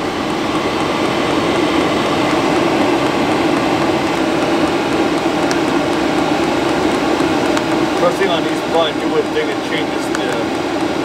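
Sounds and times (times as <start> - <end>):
diesel heater rushing hum: 0.0 - 11.0.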